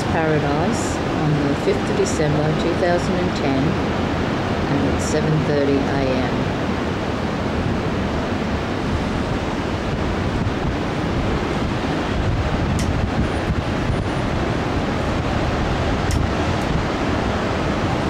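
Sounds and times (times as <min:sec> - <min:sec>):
heavy surf breaking: 0:00.0 - 0:18.0
wind buffeting microphone: 0:00.0 - 0:18.0.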